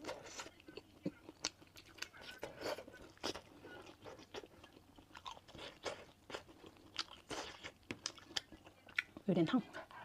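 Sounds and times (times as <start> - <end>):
mouth chewing crunchy food: 0.0 - 9.4.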